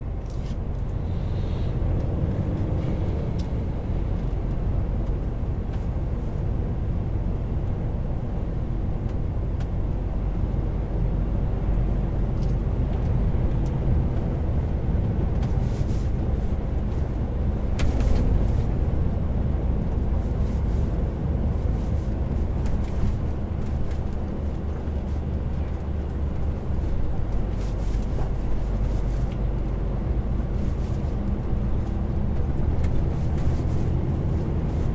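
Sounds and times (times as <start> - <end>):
road noise: 0.0 - 34.9
truck engine drone: 0.0 - 34.9.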